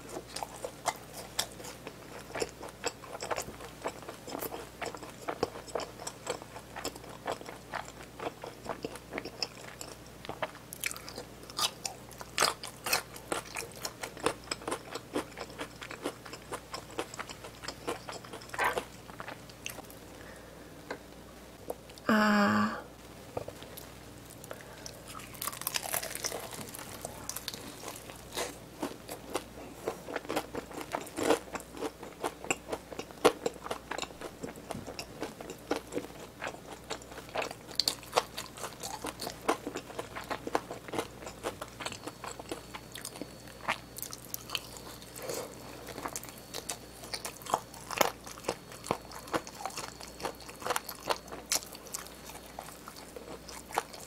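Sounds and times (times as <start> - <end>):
chewing crunchy fried chicken: 0.0 - 21.0, 23.3 - 54.0.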